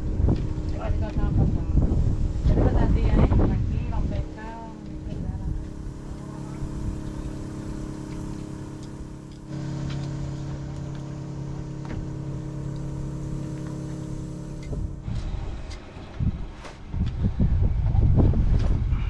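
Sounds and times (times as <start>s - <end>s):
engine humming steadily: 0.0s - 19.0s.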